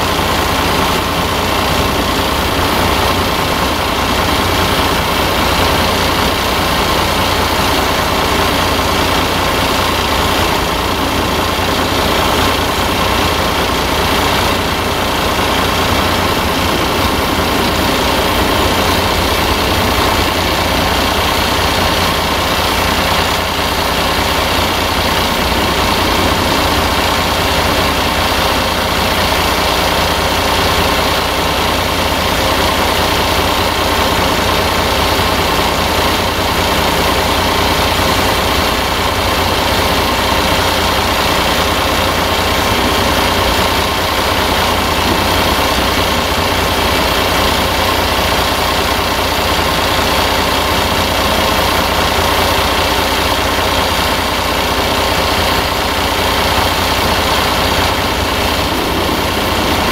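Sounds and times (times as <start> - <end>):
diesel engines idling: 0.0 - 59.9.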